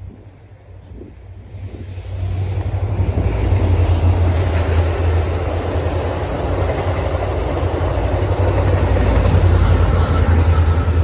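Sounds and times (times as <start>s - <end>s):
passenger train rumbling past: 0.2s - 11.0s.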